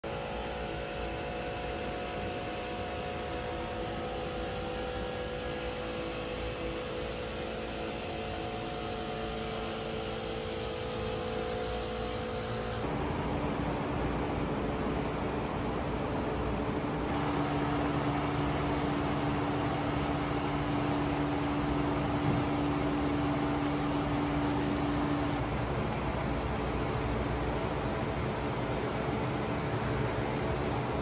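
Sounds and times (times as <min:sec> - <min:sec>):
workshop hum and hiss: 0:00.0 - 0:31.0.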